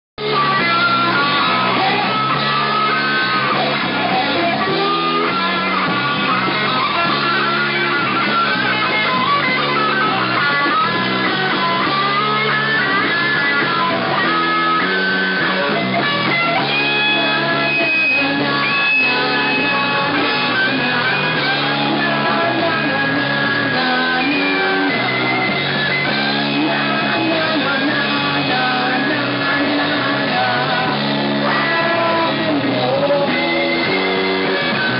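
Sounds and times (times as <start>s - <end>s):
rock band playing live: 0.2s - 34.9s.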